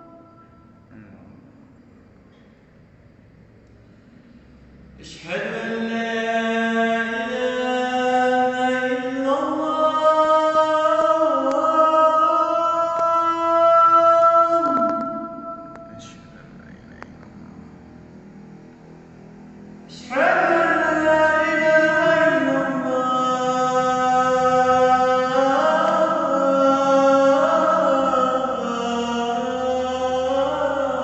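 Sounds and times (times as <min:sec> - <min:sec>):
man chanting: 0:00.0 - 0:01.6, 0:04.9 - 0:18.0, 0:19.7 - 0:31.0.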